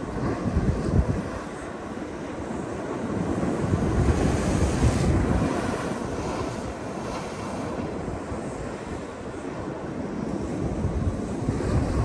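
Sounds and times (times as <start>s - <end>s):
ocean surf breaking on rocks: 0.0s - 12.0s
wind buffeting microphone: 0.0s - 12.0s.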